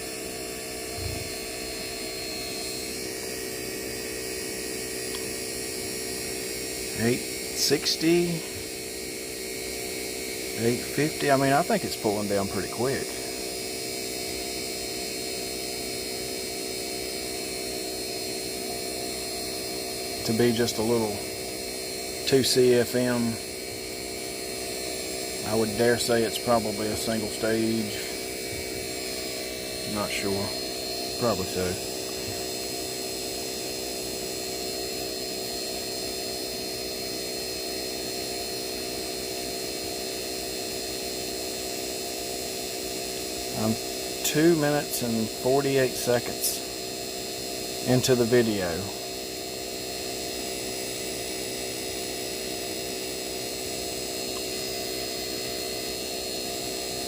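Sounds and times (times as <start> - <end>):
vacuum pump humming and whining: 0.0 - 57.0.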